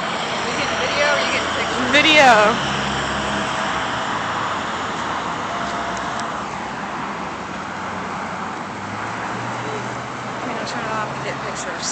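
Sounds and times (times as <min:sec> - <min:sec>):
cars passing: 0:00.0 - 0:11.9.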